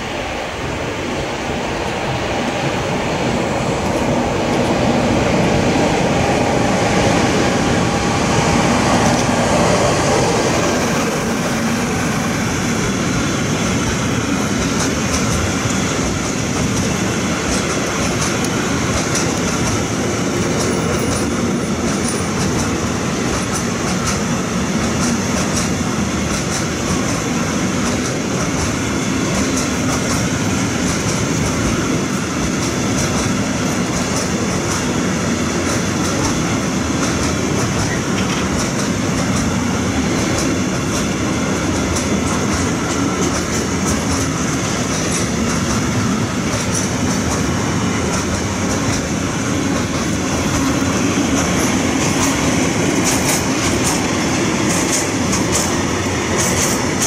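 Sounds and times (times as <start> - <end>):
electric locomotive passing: 0.0 - 57.0.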